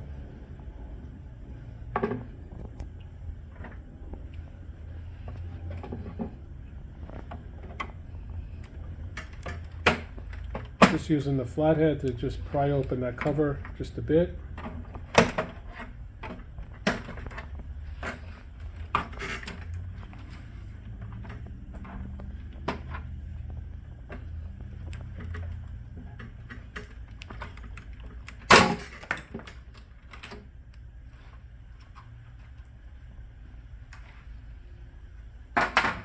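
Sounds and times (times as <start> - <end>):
low hum: 0.0 - 35.6.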